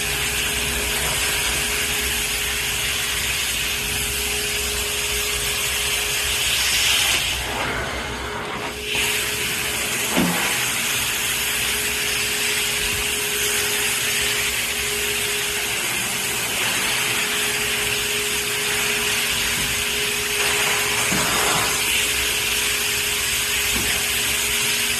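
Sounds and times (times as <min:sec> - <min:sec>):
carpet extraction wand suction hiss: 0:00.0 - 0:24.9.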